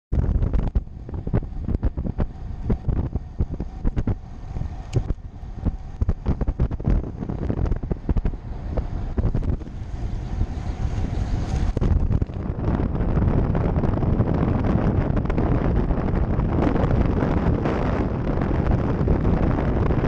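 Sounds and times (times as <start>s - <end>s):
wind buffeting microphone: 0.1s - 20.0s.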